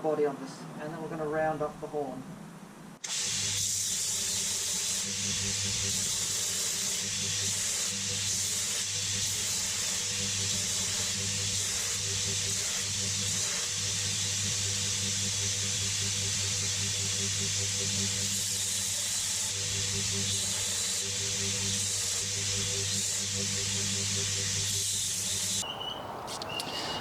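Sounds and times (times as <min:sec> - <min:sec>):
power grinder grinding steel: 0:03.1 - 0:25.6.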